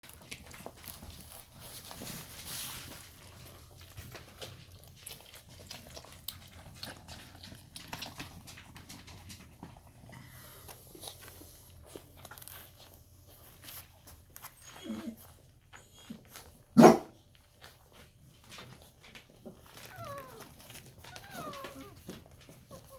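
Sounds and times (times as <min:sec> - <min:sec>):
puppies scuffling: 0:00.1 - 0:22.9.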